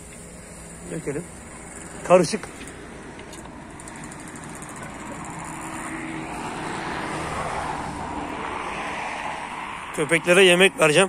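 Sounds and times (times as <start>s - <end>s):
distant engine hiss and hum: 0.0s - 11.0s.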